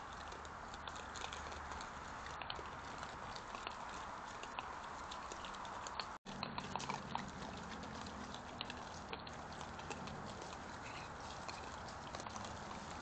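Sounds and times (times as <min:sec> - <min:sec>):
animals crunching food: 0:00.0 - 0:13.0.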